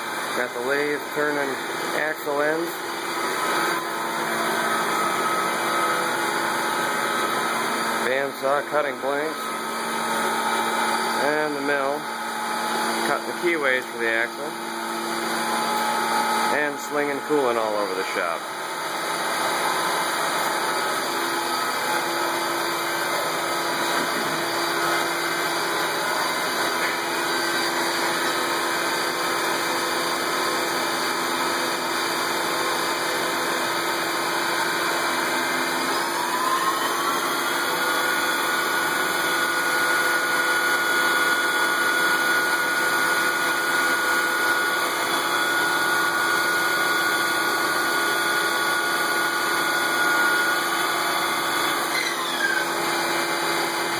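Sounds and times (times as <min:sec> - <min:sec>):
machine tools cutting metal: 0:00.0 - 0:53.9
motor whine: 0:00.0 - 0:53.9.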